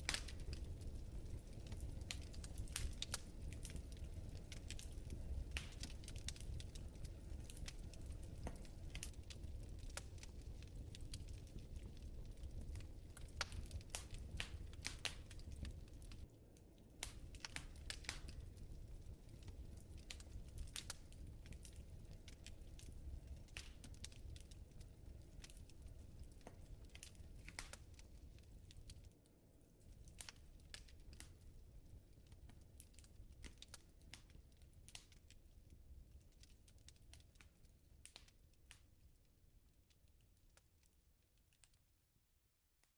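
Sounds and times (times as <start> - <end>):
low rumble of flames: 0.0 - 41.2
fire crackling and popping: 0.0 - 41.9.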